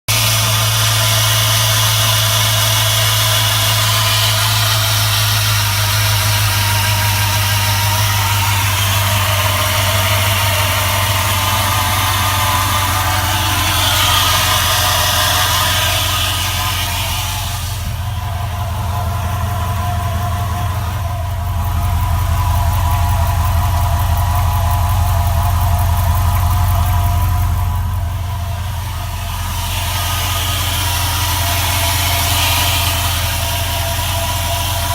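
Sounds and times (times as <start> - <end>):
engine idling: 0.0 - 34.9
engine tapping: 0.0 - 34.9.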